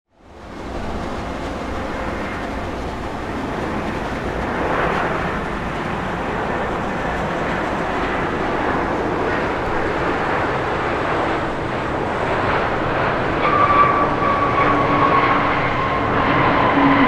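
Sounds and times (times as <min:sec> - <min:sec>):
jet engine rushing: 0:00.2 - 0:17.0.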